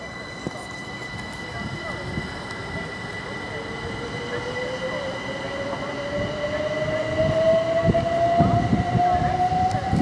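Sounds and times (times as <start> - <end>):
train whine rising in pitch: 0.0 - 10.0.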